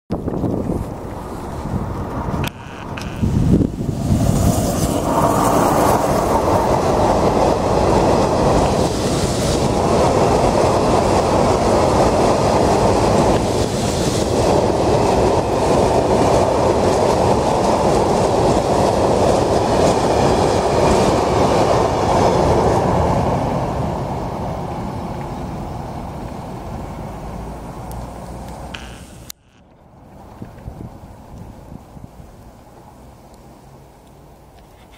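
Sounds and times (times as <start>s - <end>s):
freight train wheels on rails: 0.1s - 29.4s.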